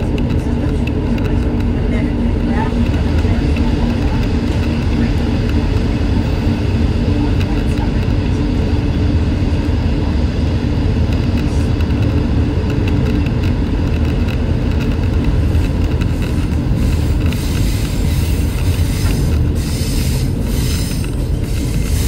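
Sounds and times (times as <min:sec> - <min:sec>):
train rumbling in motion: 0:00.0 - 0:22.0.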